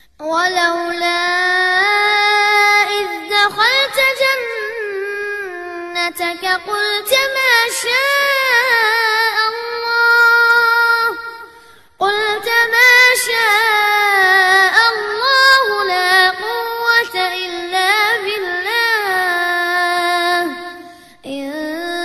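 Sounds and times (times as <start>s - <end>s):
boy chanting recitation: 0.0s - 22.0s.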